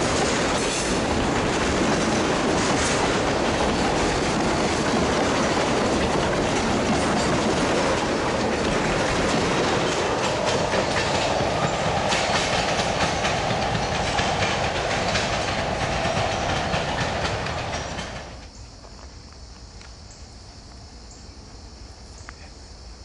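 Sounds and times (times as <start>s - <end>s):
train wheels clacking over rails: 0.0s - 18.6s.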